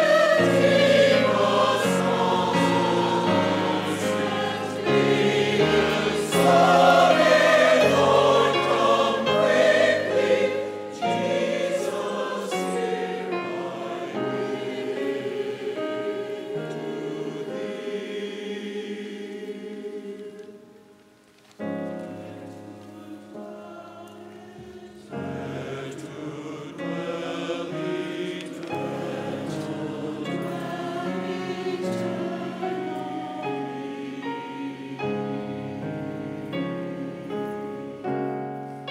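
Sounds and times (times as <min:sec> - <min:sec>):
choir singing: 0:00.0 - 0:21.0, 0:21.6 - 0:38.9
piano accompaniment: 0:00.0 - 0:38.9.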